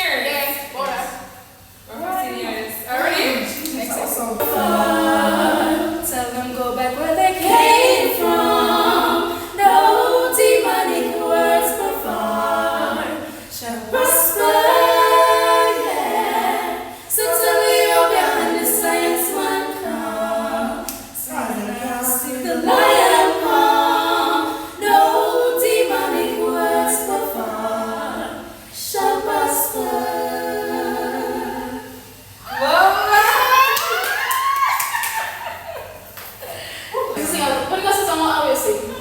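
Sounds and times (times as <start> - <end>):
women singing a cappella: 0.0 - 39.0.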